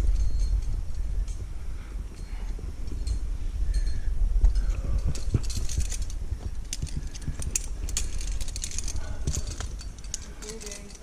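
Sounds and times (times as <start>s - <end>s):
climbing gear clinking and jangling: 0.0s - 11.0s
steady low rumble: 0.0s - 11.0s.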